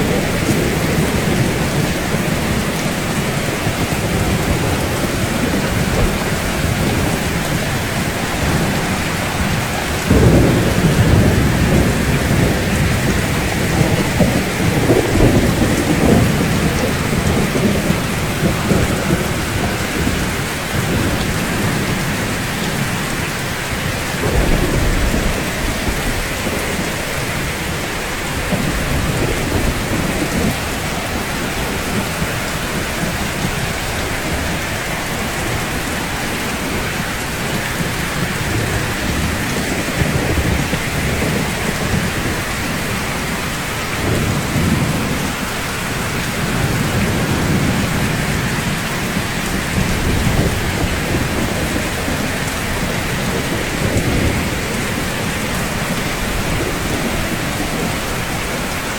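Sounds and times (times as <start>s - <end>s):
rain falling on rooftops: 0.0s - 58.9s
thunder rumbling: 0.0s - 58.9s.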